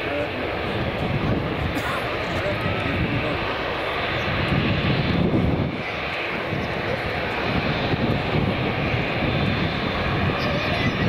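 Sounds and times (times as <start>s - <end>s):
jet engines at low thrust: 0.0s - 11.0s.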